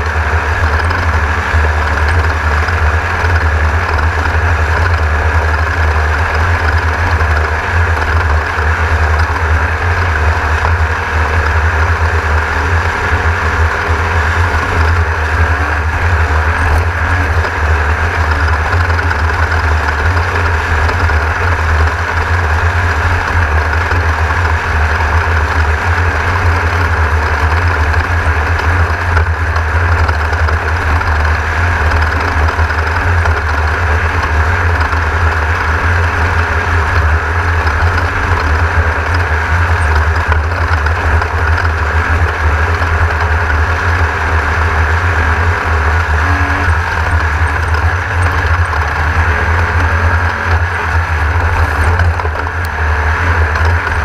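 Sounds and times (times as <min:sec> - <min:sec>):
car engine running with low rumble: 0:00.0 - 0:54.0.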